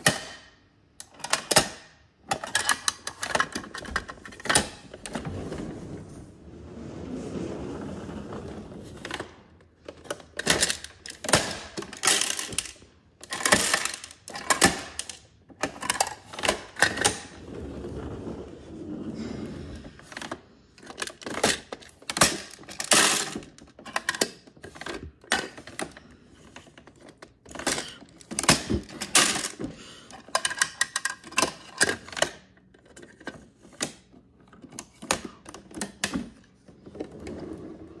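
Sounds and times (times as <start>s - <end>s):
plastic toy bins clattering: 0.0s - 5.8s, 8.4s - 17.8s, 19.6s - 38.0s.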